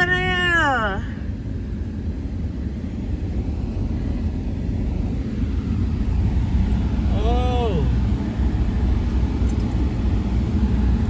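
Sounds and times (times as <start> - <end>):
vehicle rumble from inside cabin: 0.0 - 11.0.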